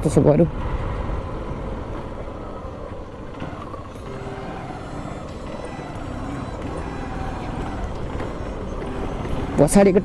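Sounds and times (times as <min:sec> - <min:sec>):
road and wind noise: 0:00.0 - 0:10.0
motorcycle engine running: 0:01.8 - 0:10.0.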